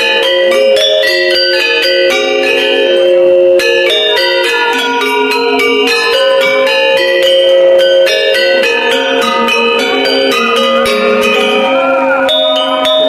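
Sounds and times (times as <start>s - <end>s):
metallophone ensemble playing: 0.0s - 13.0s.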